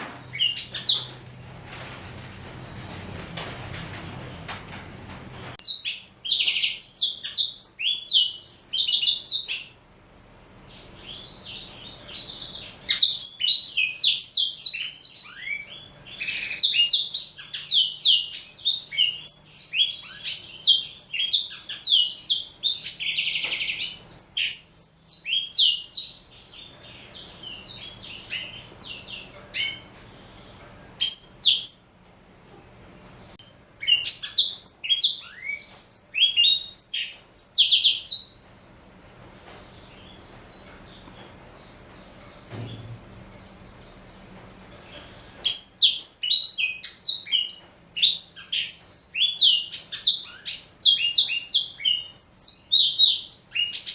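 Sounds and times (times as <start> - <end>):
canary singing high twittering: 0.0 - 1.2, 4.5 - 10.0, 10.7 - 32.0, 33.4 - 53.9.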